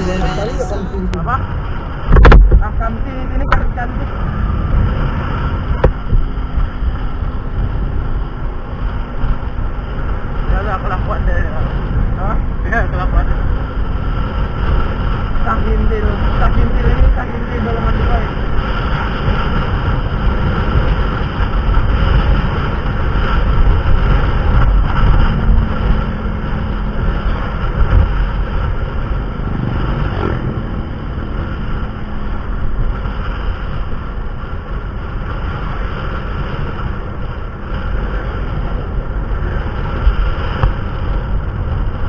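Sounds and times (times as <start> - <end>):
vehicle engine and road noise: 0.0 - 42.0
wind on microphone: 0.0 - 42.0.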